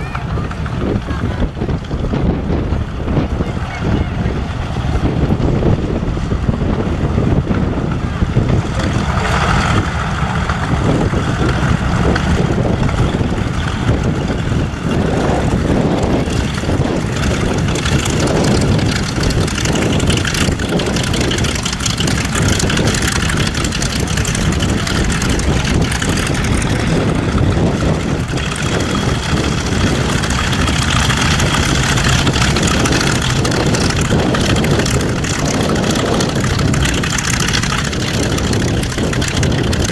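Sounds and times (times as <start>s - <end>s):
loud engine noise: 0.0s - 39.9s
wind buffeting microphone: 0.0s - 39.9s.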